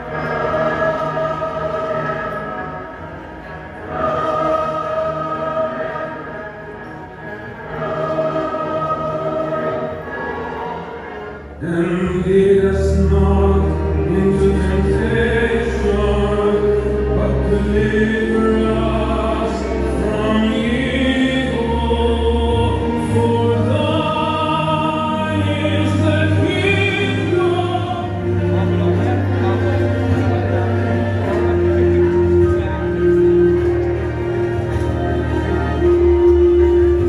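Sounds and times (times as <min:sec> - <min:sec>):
choir singing hymn-like song: 0:00.0 - 0:37.0
instrumental backing: 0:00.0 - 0:37.0.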